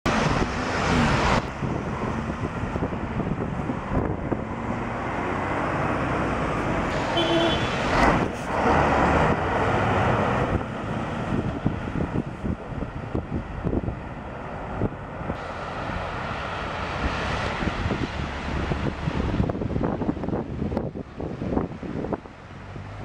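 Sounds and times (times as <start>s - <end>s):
vehicles passing on wet road: 0.1s - 23.0s.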